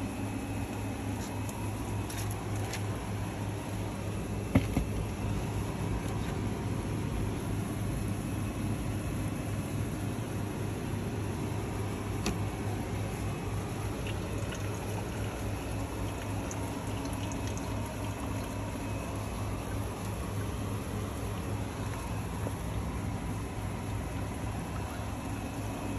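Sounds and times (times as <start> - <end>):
low hum and hiss: 0.0 - 25.9.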